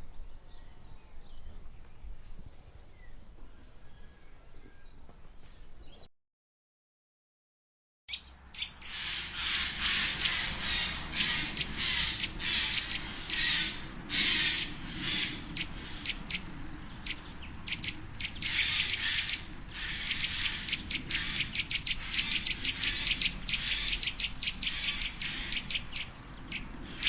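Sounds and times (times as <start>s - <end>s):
songbirds chirping: 0.0s - 6.1s, 8.1s - 27.0s.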